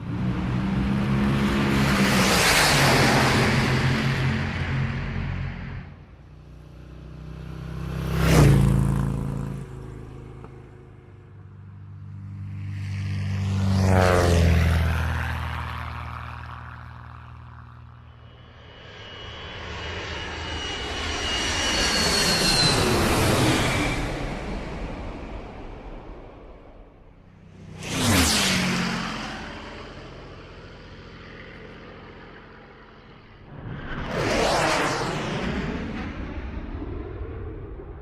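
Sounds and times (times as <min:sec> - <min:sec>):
aircraft flying by: 0:00.0 - 0:38.0.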